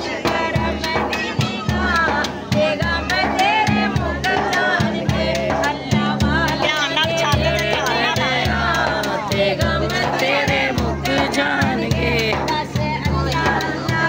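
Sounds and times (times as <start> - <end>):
music with repeating beat: 0.0 - 14.0.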